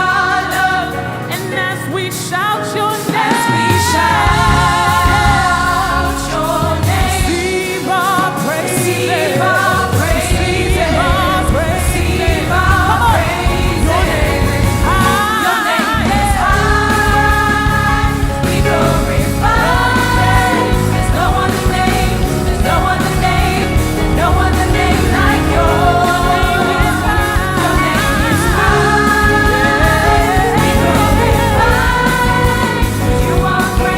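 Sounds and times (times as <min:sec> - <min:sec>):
band with bass: 0:00.0 - 0:33.9
gospel singers with backing vocals: 0:00.0 - 0:33.9.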